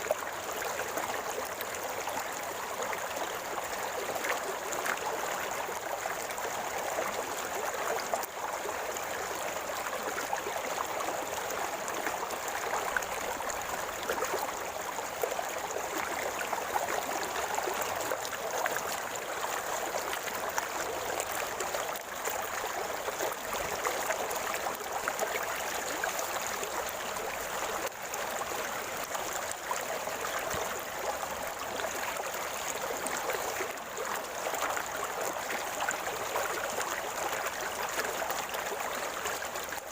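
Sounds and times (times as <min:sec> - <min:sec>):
river water flowing and gurgling: 0:00.0 - 0:39.9.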